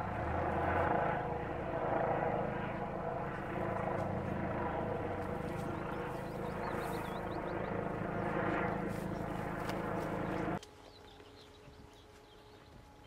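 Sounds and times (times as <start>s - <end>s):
helicopter rotor chop: 0.0s - 10.6s
helicopter engine drone: 0.0s - 13.0s.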